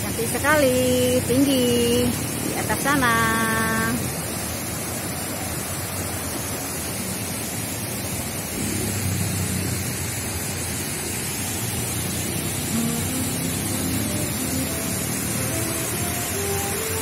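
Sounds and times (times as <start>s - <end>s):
light rain: 0.0s - 17.0s
waterfall rushing: 0.0s - 17.0s.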